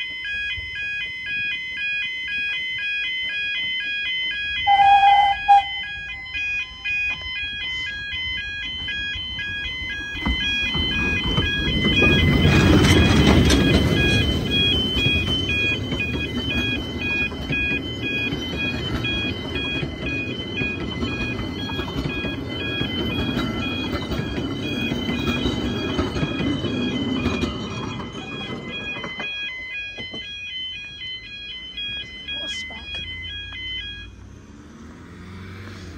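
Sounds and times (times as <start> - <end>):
level crossing alarm wailing: 0.0 - 34.2
train coaches rumbling: 3.2 - 33.2.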